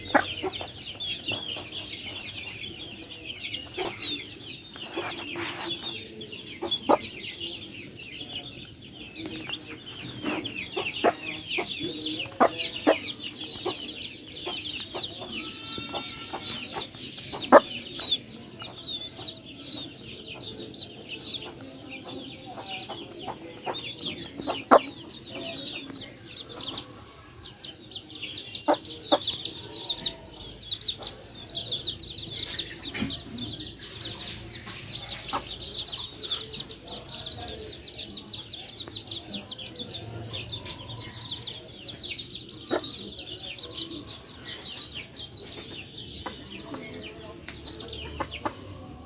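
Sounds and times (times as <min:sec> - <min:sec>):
chickens clucking: 0:00.0 - 0:49.0
chicks peeping: 0:00.0 - 0:49.0.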